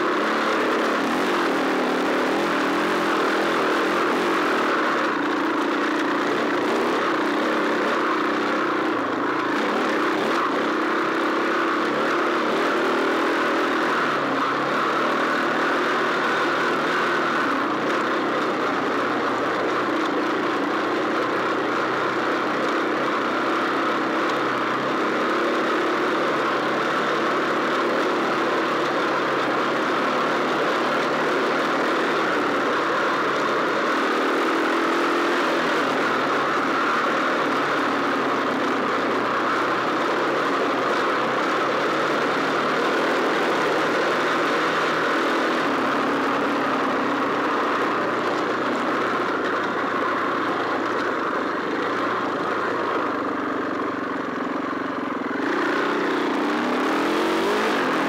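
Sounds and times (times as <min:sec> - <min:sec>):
off-road motorcycle engine: 0:00.0 - 0:58.0.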